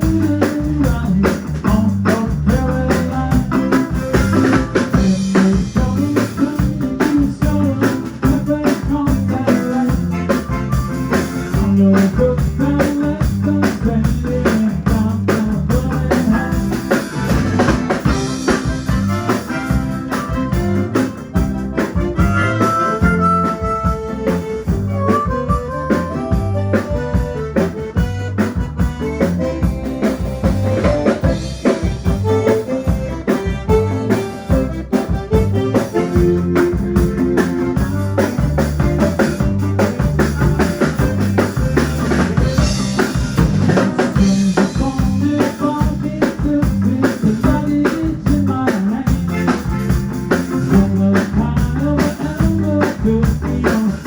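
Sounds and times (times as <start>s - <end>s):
band playing up-tempo music: 0.0s - 54.0s
drum kit beat: 0.0s - 54.0s.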